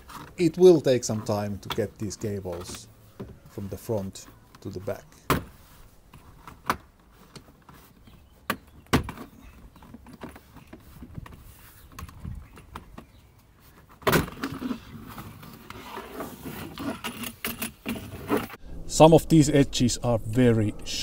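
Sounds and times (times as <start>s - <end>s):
rustling: 0.0s - 18.6s.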